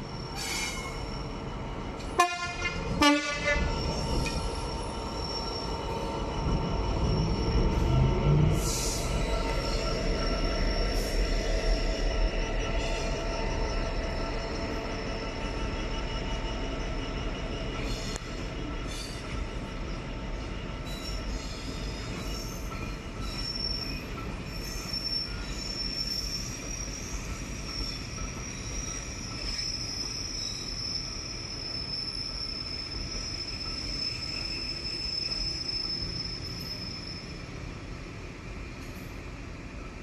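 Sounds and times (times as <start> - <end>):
train wheels squealing: 0.0 - 2.0, 2.7 - 40.0
train rumbling past: 0.0 - 40.0.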